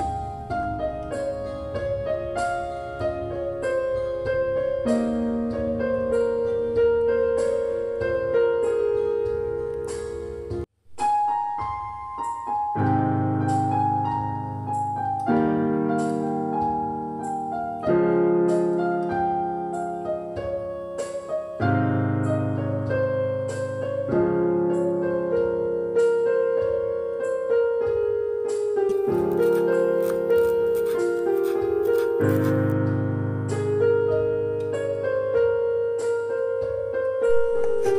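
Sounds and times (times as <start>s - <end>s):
background piano music: 0.0s - 37.9s.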